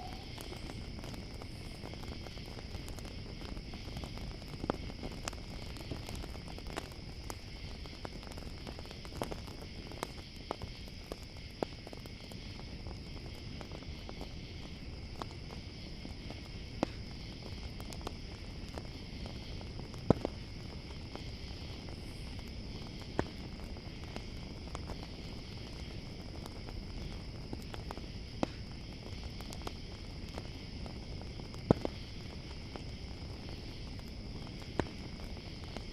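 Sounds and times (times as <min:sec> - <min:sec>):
campfire crackling and popping: 0:00.0 - 0:35.9
crickets chirring: 0:00.0 - 0:35.9.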